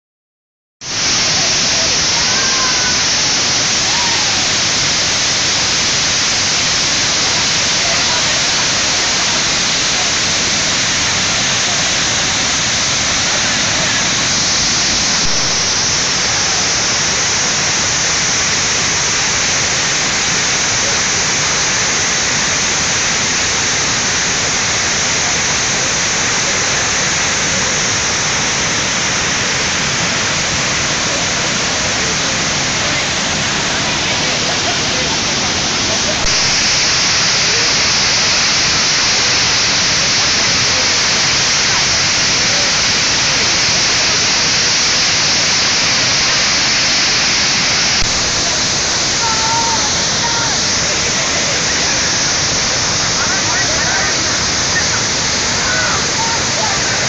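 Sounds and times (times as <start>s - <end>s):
waterfall rushing: 0.8s - 57.0s.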